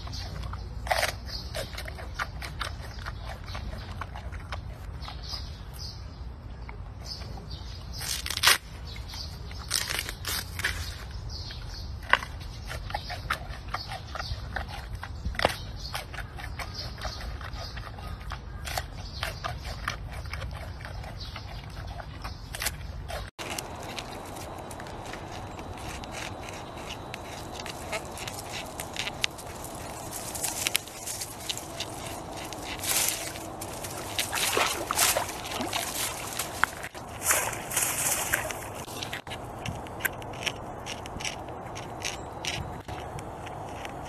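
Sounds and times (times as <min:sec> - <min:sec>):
panda chewing with crunching clicks: 0:00.0 - 0:05.5, 0:12.0 - 0:37.4, 0:38.3 - 0:44.0.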